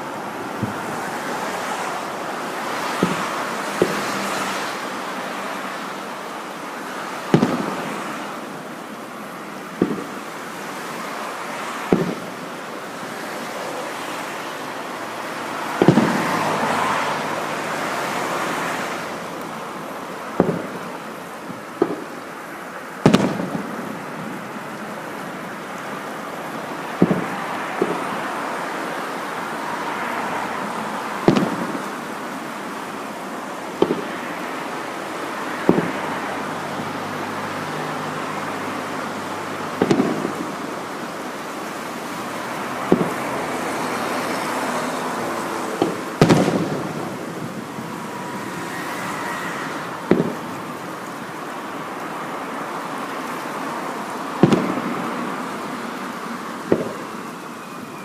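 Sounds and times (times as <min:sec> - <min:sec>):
fireworks booming: 0:00.0 - 0:05.8, 0:06.7 - 0:08.8, 0:09.6 - 0:32.9, 0:33.6 - 0:41.1, 0:42.2 - 0:51.4, 0:54.4 - 0:57.4
steady rushing background noise: 0:00.0 - 0:58.0.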